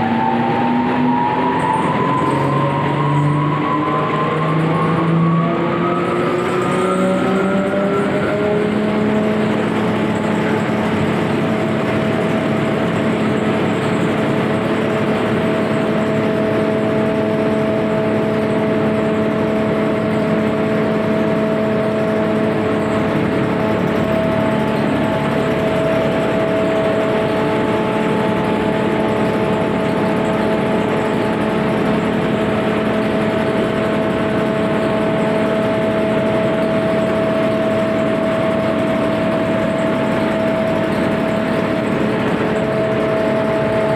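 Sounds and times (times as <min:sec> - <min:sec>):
grinder machine whining: 0:00.0 - 0:43.9.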